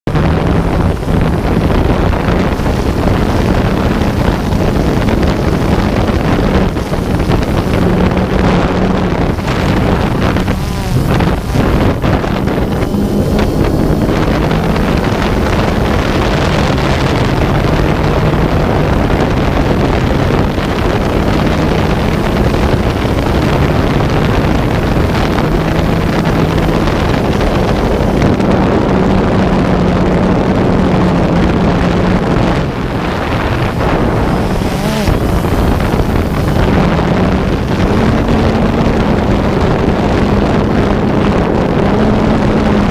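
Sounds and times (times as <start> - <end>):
boat engine humming: 0.1 - 42.9
wind buffeting microphone: 0.1 - 42.9.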